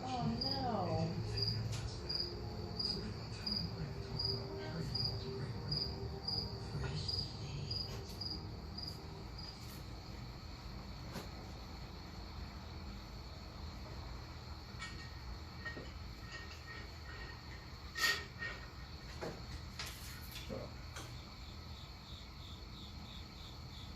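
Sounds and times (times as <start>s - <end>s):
cricket chirping: 0.0s - 23.9s.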